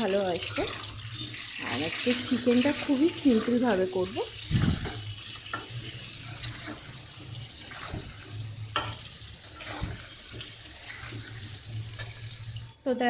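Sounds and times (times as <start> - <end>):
potatoes sizzling in oil: 0.0 - 13.0
metal spatula scraping a pan: 0.1 - 12.8.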